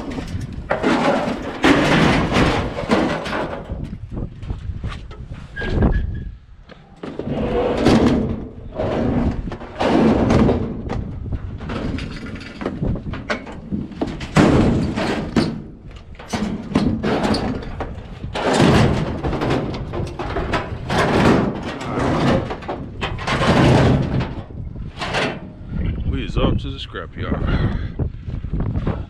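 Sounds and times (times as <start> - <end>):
scrap metal thumping and scraping: 0.0 - 5.8, 7.0 - 25.8.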